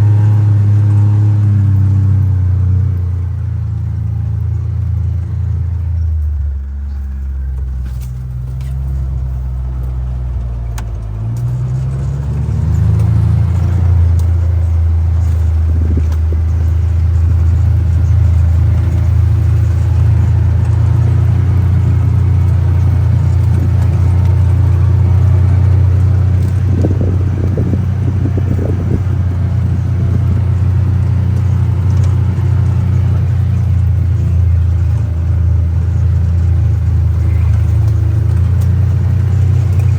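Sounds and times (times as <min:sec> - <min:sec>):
utility vehicle engine running: 0:00.0 - 0:39.9
faint rattles and rustling: 0:04.4 - 0:39.9.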